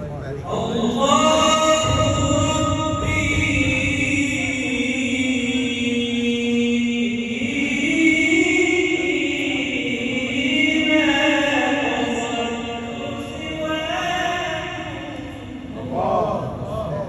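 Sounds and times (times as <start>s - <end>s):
man chanting: 0.0s - 17.0s.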